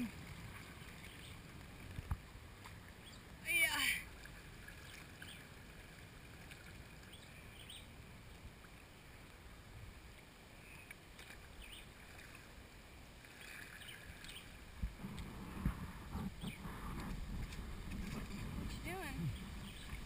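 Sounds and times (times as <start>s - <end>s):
paddle splashing water: 0.0s - 20.0s.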